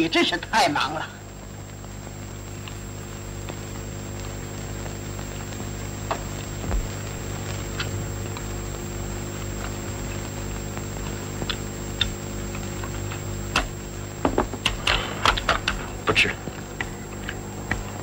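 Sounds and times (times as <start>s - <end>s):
mains hum and hiss: 0.0s - 18.0s.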